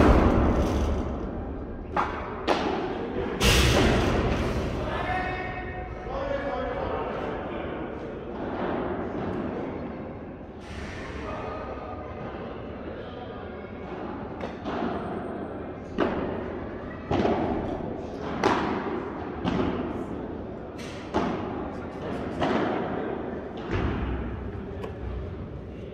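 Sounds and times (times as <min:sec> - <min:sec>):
balls thudding in a hall: 0:00.0 - 0:25.9.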